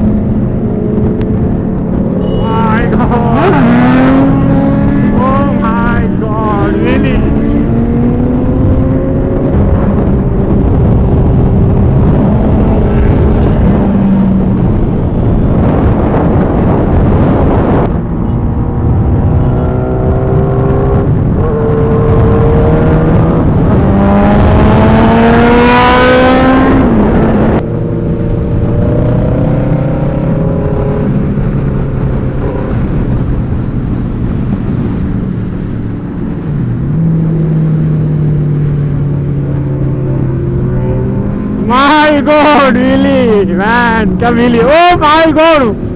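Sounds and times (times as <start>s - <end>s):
motorcycle engines revving and accelerating: 0.0s - 45.9s.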